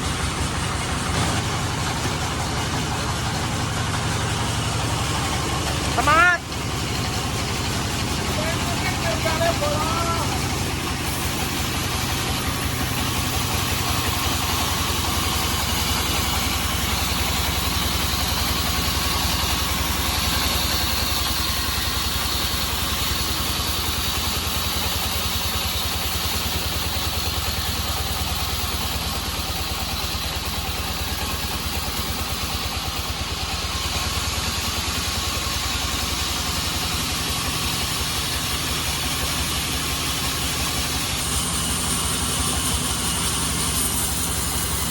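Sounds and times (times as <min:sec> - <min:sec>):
saw whine: 0:00.0 - 0:44.9
sawmill engine drone: 0:00.0 - 0:44.9.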